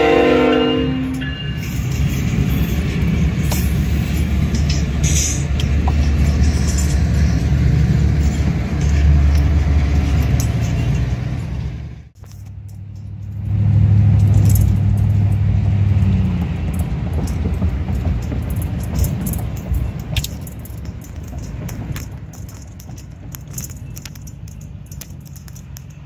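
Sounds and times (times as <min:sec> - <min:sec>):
diesel locomotives rumbling past: 0:00.0 - 0:26.0
car engine and road rumble: 0:01.6 - 0:26.0.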